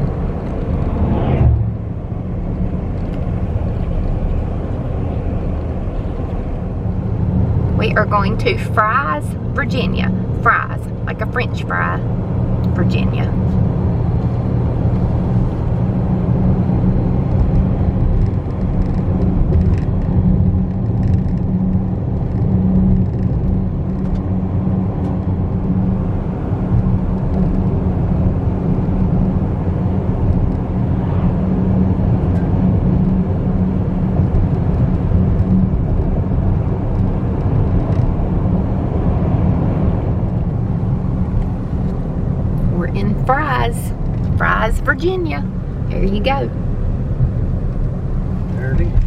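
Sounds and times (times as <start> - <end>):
road and engine rumble in car: 0.0 - 49.0.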